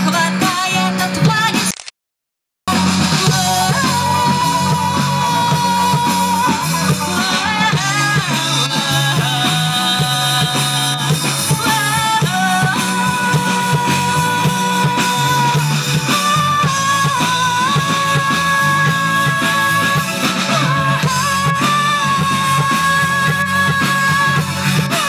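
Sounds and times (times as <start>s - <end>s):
rock band playing: 0.0s - 1.7s, 2.7s - 25.0s.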